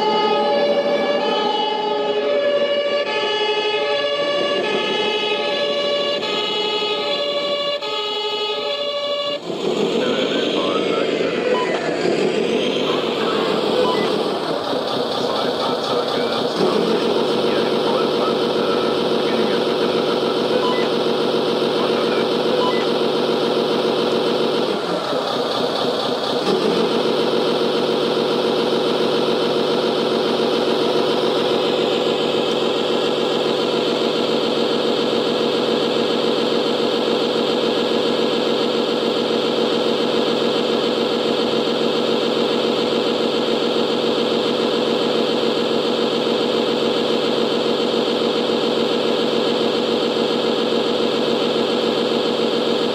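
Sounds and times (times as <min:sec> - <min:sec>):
model truck engine sound: 0:00.0 - 0:52.9.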